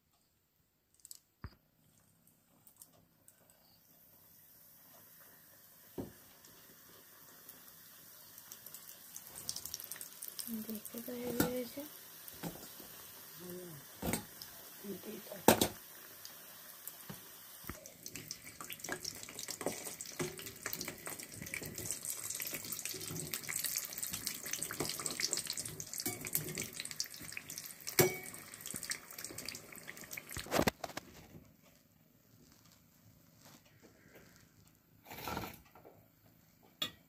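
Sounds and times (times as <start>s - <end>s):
samosas deep-frying in hot oil: 0.8s - 37.0s.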